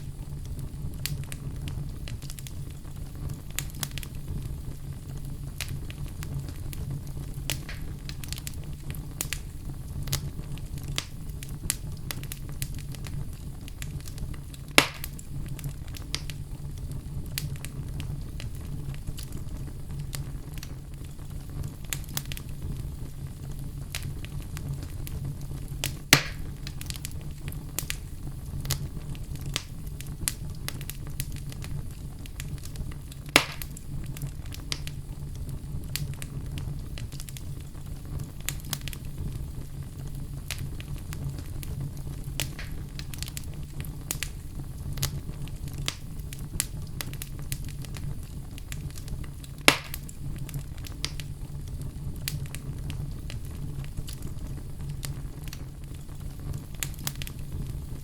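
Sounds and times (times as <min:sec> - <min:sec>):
sharp fire pops: 0:00.0 - 0:58.0
wood fire crackling: 0:00.0 - 0:58.0.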